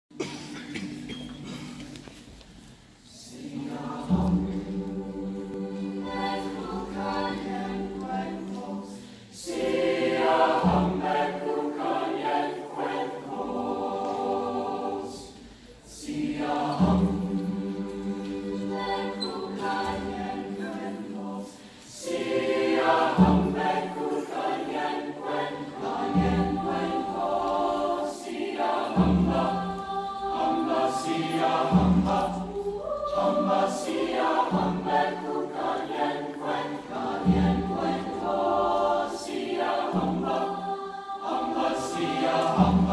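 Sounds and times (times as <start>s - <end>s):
choir singing in harmony: 0.1s - 42.9s.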